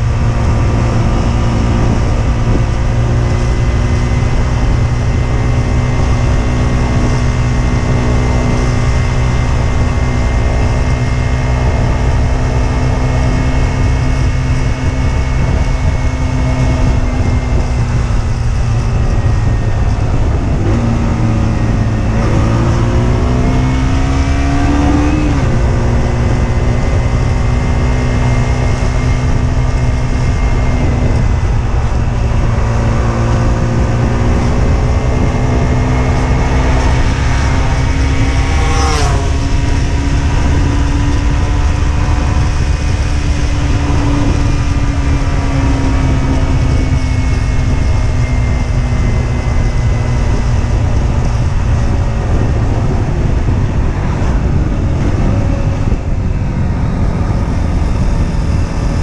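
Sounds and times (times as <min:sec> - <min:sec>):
motorcycle engine revving: 0:00.0 - 0:59.0
vehicle passing whoosh: 0:00.0 - 0:59.0
wind rumble on microphone: 0:00.0 - 0:59.0.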